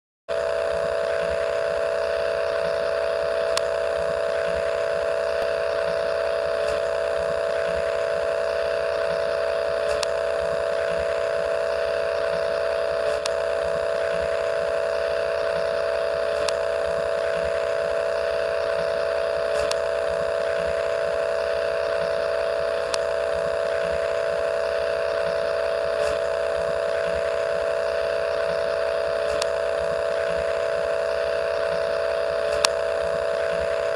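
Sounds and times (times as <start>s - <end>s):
steady hum: 0.3s - 33.9s
tape hiss: 0.3s - 33.9s.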